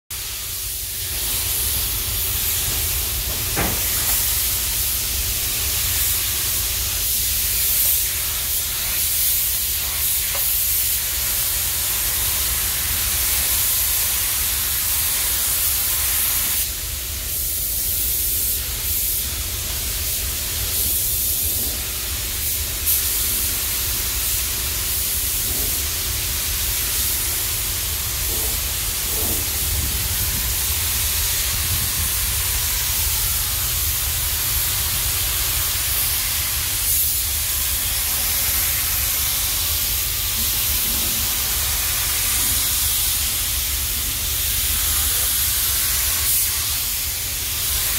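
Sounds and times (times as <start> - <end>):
spray gun hissing: 0.2 - 47.9.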